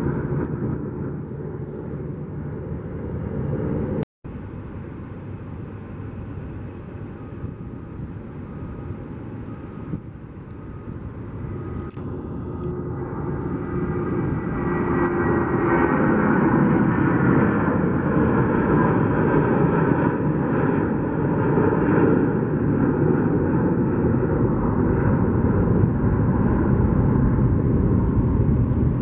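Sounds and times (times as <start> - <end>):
airliner takeoff at full thrust: 0.0 - 29.0
jet engine roar: 0.0 - 29.0
jet engine whine: 0.0 - 29.0.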